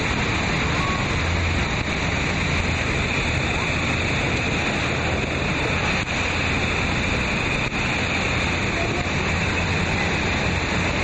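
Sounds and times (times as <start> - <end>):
river rapids rushing: 0.0 - 11.0
wind buffeting microphone: 0.0 - 11.0.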